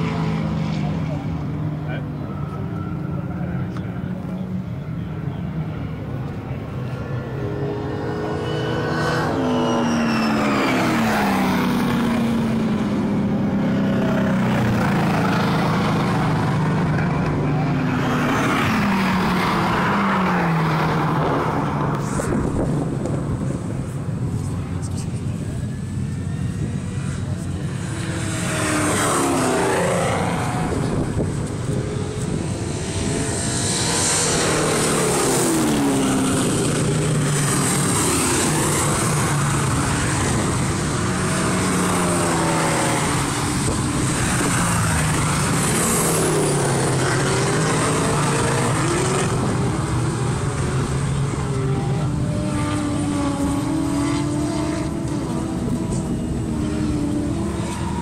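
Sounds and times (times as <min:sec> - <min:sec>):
race car engines revving past: 0:00.0 - 0:58.0.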